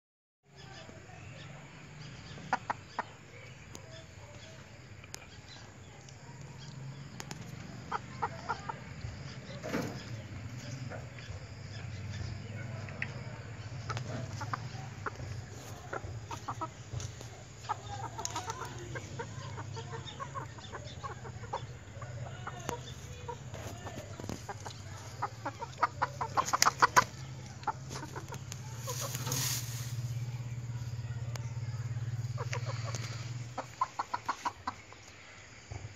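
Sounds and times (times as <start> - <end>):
chickens clucking: 0.6 - 35.9.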